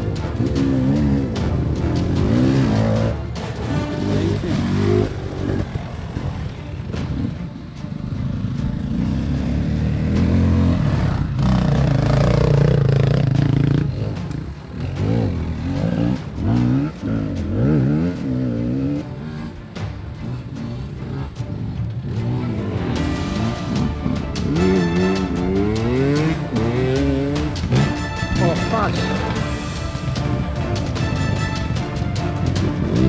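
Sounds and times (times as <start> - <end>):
dirt bike engine revving: 0.0 - 7.4, 8.0 - 33.0.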